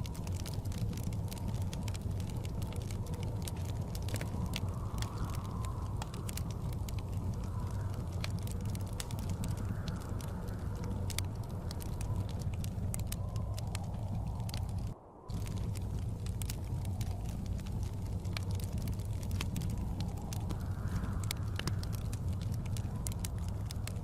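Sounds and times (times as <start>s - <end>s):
blizzard wind rumble: 0.0s - 24.0s
wood fire crackling and popping: 0.0s - 24.0s.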